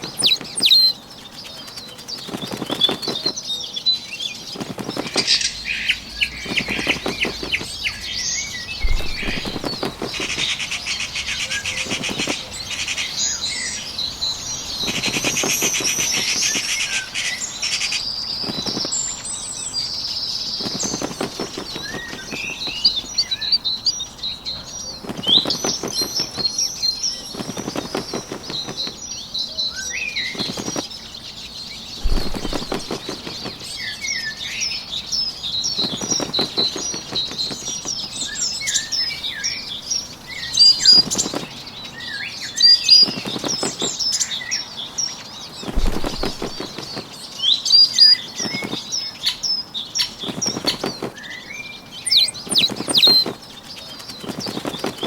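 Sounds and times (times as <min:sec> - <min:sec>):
bird wings flapping: 0:00.0 - 0:03.6, 0:04.2 - 0:19.4, 0:20.4 - 0:23.5, 0:24.7 - 0:29.2, 0:30.2 - 0:34.6, 0:35.2 - 0:41.8, 0:42.6 - 0:44.3, 0:45.4 - 0:49.4, 0:50.0 - 0:51.4, 0:52.0 - 0:55.0
small birds chirping and trilling: 0:00.0 - 0:55.0.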